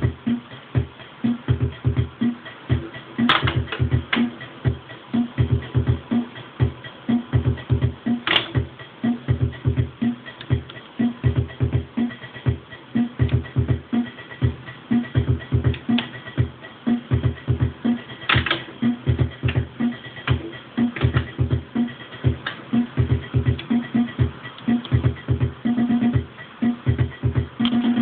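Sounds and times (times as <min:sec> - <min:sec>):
drum machine pattern: 0:00.0 - 0:28.0.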